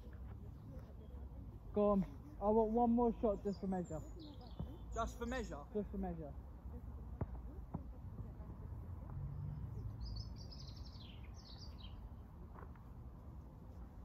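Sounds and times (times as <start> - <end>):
songbird chirping: 0.0 - 13.9.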